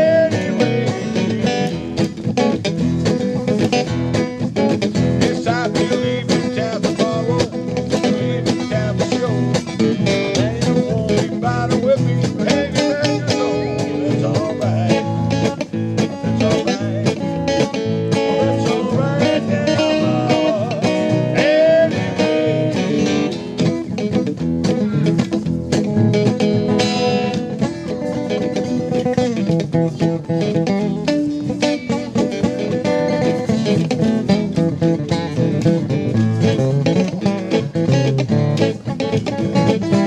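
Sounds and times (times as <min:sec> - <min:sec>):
acoustic guitar music: 0:00.0 - 0:40.0.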